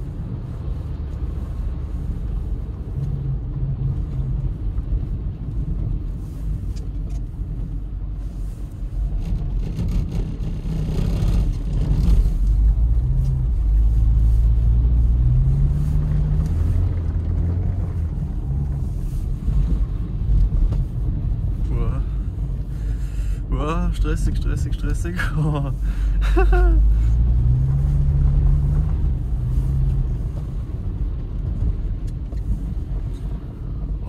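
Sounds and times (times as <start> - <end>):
car engine from inside cabin: 0.0 - 34.0.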